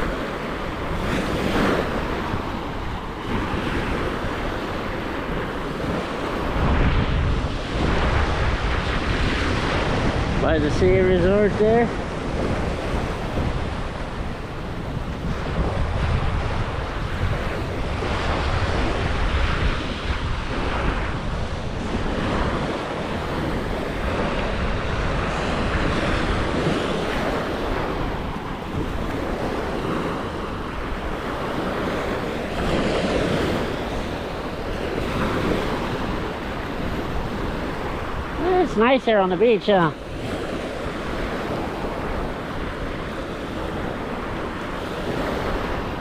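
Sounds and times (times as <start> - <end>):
surf washing onto beach: 0.0 - 46.0
wind buffeting microphone: 0.0 - 46.0.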